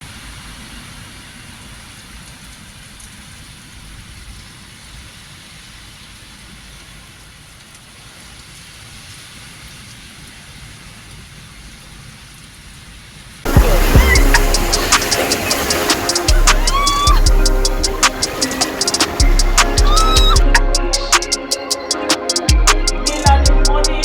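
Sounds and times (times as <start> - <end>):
rain hiss: 0.1 - 23.3.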